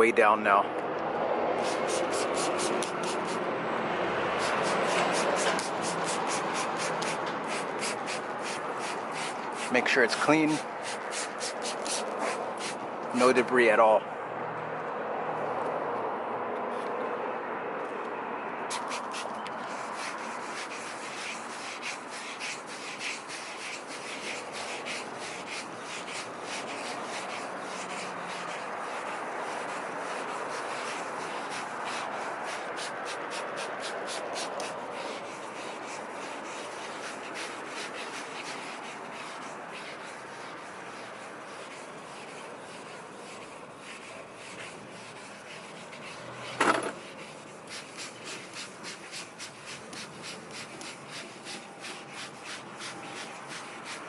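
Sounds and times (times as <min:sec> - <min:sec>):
sandpaper rubbing on paint: 0:01.5 - 0:13.8, 0:18.7 - 0:54.0.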